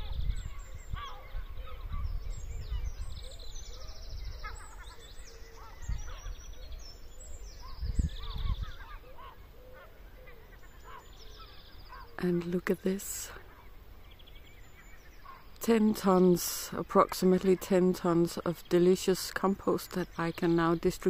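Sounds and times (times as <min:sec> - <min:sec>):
louder low bird calls: 0:00.0 - 0:21.0
small birds chirping and trilling: 0:00.0 - 0:21.0.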